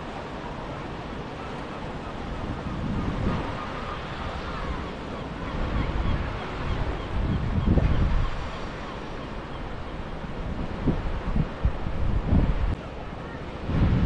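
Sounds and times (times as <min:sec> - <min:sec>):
wind buffeting microphone: 0:02.1 - 0:14.0.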